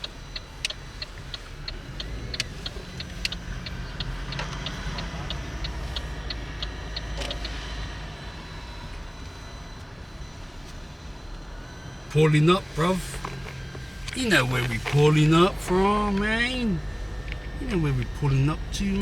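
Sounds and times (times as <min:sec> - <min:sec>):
low rumble of car driving: 0:00.0 - 0:19.0
turn signal ticking: 0:00.0 - 0:19.0.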